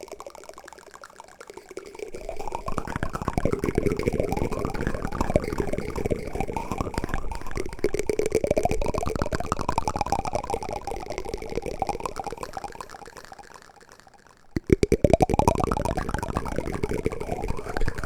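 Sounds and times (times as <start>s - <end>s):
watery gurgling pulses: 0.0s - 18.0s.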